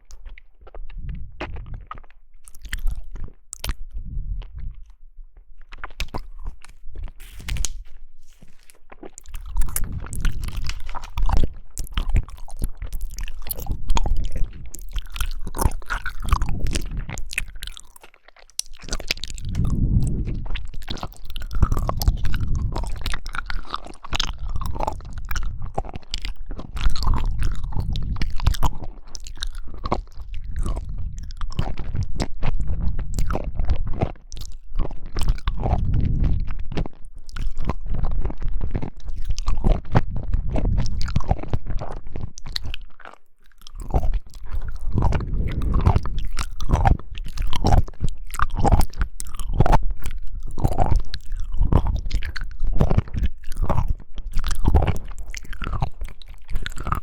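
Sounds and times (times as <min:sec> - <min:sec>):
wet chewing of jelly: 0:00.0 - 0:57.0.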